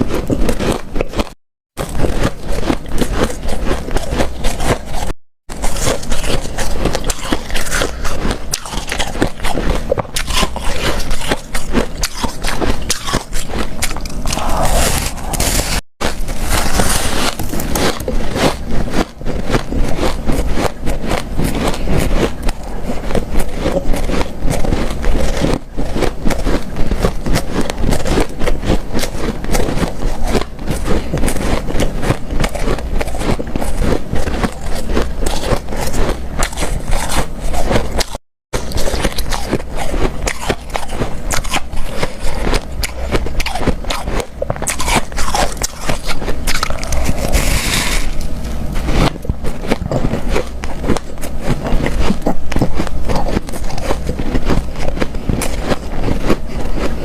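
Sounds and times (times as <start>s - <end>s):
chewing crunchy ice: 0.0s - 57.0s.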